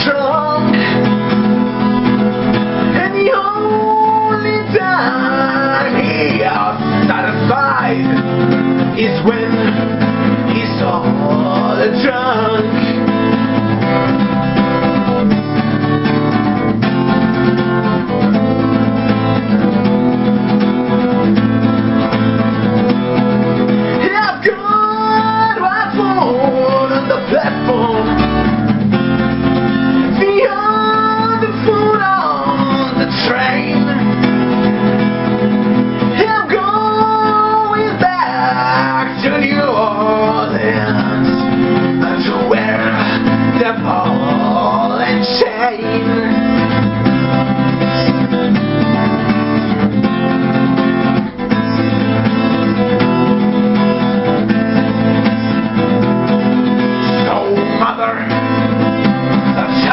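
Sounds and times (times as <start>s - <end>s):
acoustic guitar accompaniment: 0.0s - 59.9s
sliding melody line: 0.0s - 59.9s.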